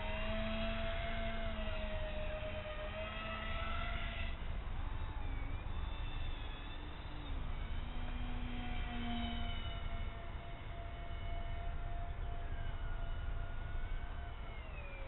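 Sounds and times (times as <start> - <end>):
model boat motors whining: 0.0 - 15.0.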